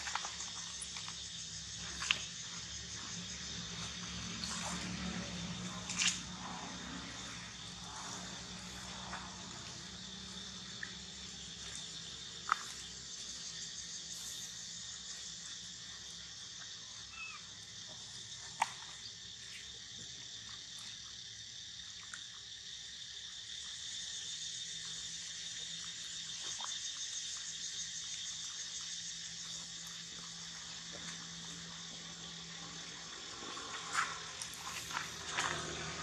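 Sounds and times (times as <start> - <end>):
insects calling: 0.0 - 36.0.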